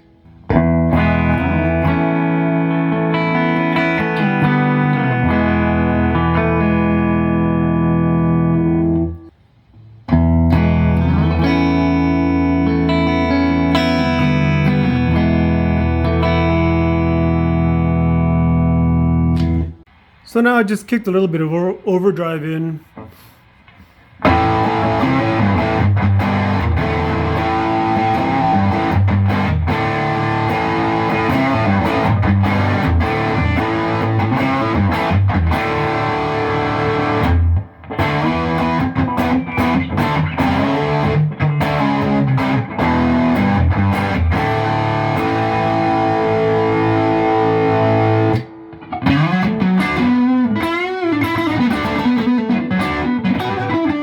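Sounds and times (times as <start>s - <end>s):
overdriven electric guitar: 0.0s - 19.8s, 22.9s - 54.0s.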